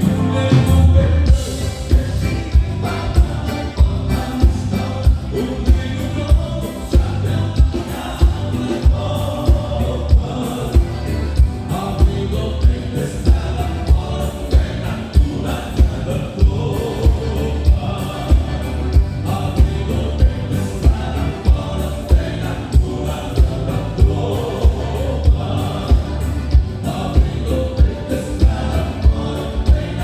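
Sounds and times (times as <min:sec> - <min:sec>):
live band music: 0:00.0 - 0:30.0
low drum beat: 0:00.0 - 0:30.0.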